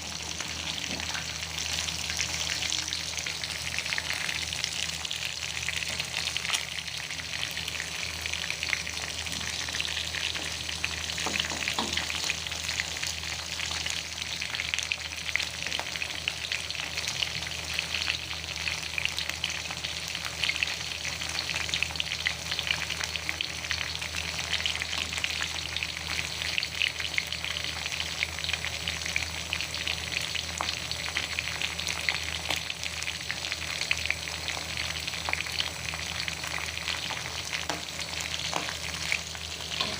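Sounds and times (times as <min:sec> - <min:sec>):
food sizzling in oil: 0:00.0 - 0:39.9.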